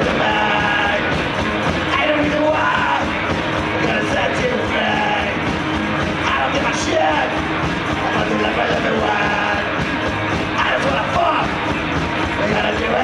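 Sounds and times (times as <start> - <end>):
electric guitar: 0.0 - 13.0
garage rock band playing: 0.0 - 13.0.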